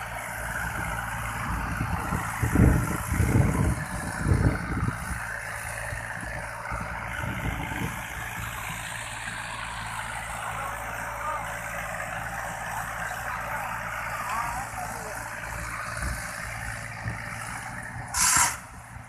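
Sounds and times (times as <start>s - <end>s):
distant tractor engine running: 0.0s - 19.0s
loud low rumbles: 0.0s - 19.0s.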